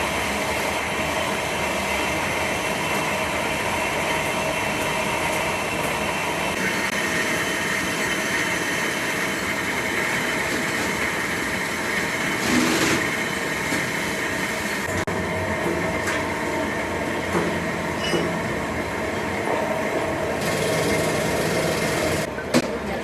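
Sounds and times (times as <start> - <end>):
factory machinery noise: 0.0 - 23.0.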